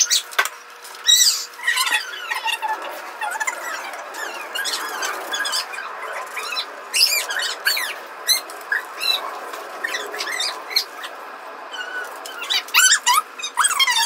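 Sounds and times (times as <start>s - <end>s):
small animal squeaking and chirping: 1.0s - 14.0s.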